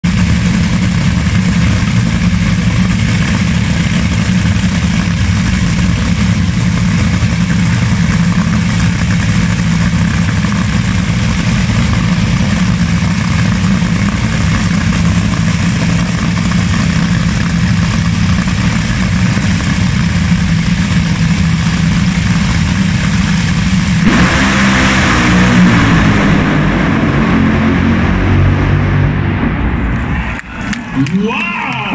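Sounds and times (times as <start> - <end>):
dragster engines idling roughly: 0.0 - 27.2
dragsters launching at full throttle: 0.0 - 31.9.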